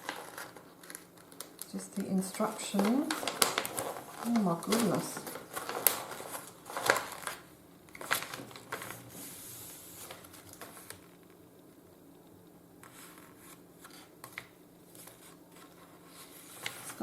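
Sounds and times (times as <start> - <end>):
paper rustling: 0.0 - 11.4, 12.8 - 17.0.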